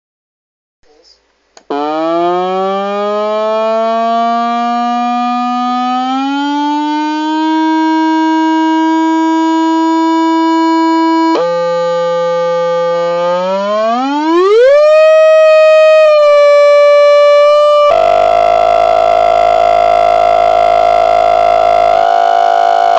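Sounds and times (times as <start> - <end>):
buzzy electronic tone: 1.7 - 22.9.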